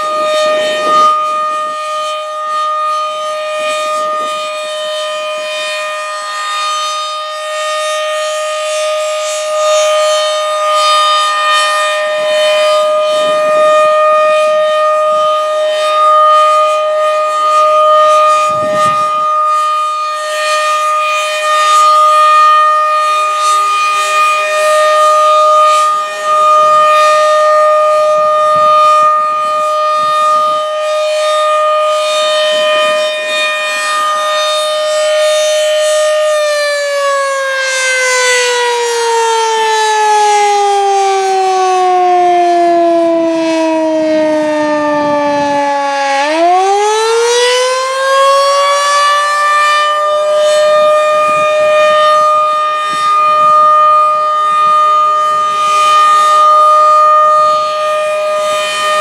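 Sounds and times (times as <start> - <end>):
rotating warning siren: 0.0 - 59.0.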